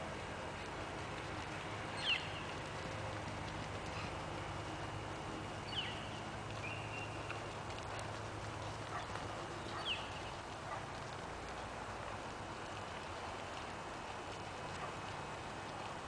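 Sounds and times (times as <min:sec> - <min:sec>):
outdoor background hiss: 0:00.0 - 0:16.0
horse trotting on sand: 0:00.6 - 0:16.0.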